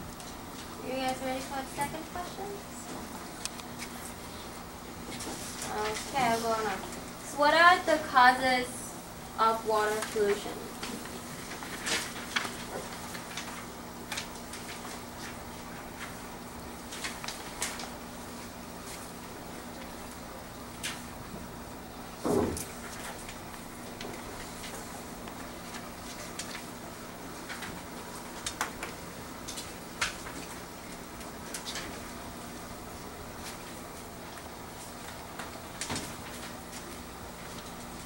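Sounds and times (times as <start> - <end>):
steady low hum: 0.0 - 38.0
papers being handled: 0.2 - 7.0, 9.7 - 21.4, 22.5 - 38.0.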